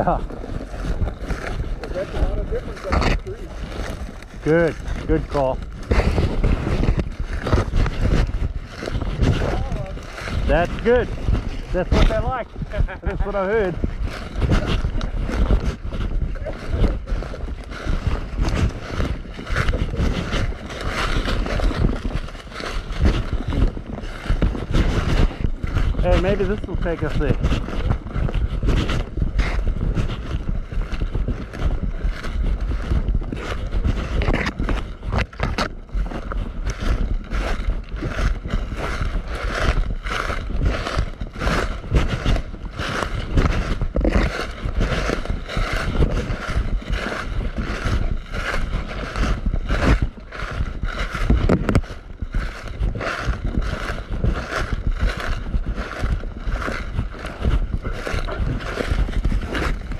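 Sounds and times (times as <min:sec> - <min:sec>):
clothing rubbing on camera: 0:00.0 - 0:59.9
footsteps walking: 0:00.0 - 0:59.9
microphone handling: 0:00.0 - 0:59.9
wind rumble: 0:00.0 - 0:59.9.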